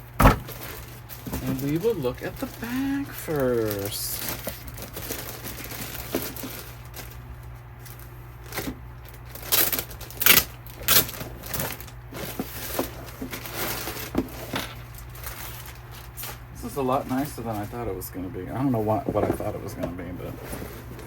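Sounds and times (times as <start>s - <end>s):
bag rustling: 0.1s - 21.0s.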